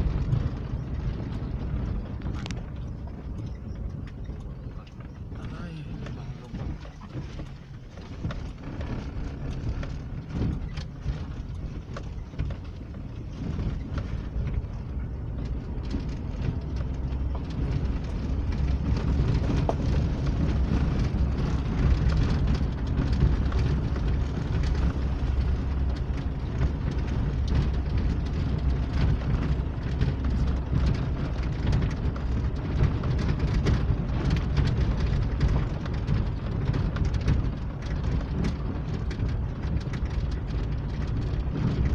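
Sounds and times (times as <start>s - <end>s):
engine and tyres rumbling: 0.0s - 41.9s
stones crackling under wheels: 0.0s - 41.9s.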